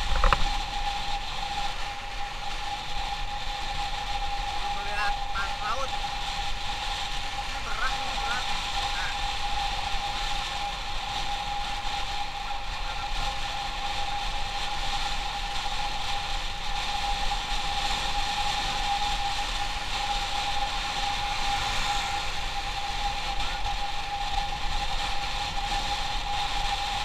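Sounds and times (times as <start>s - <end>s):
motorcycle running: 0.0s - 27.0s.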